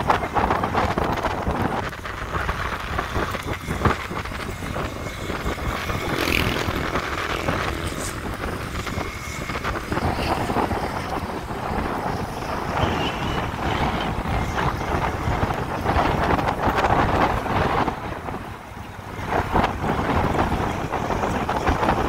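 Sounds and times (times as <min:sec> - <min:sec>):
vehicle engine and road noise: 0:00.0 - 0:22.0
wind buffeting microphone: 0:00.0 - 0:22.0.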